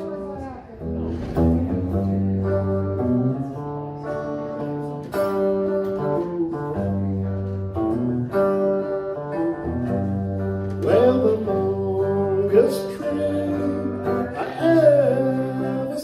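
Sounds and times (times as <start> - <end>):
plucked string chords: 0.0 - 16.0.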